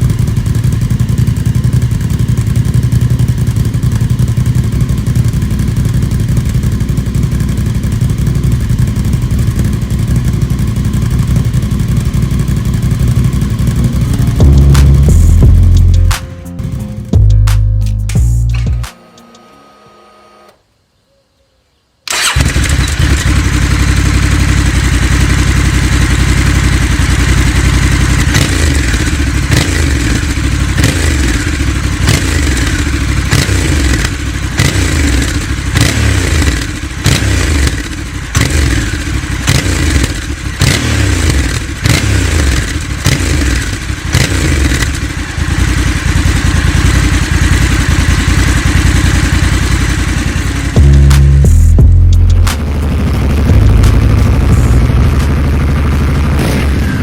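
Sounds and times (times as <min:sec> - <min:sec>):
motorcycle engine revving: 0:00.0 - 0:17.6, 0:22.1 - 0:57.0.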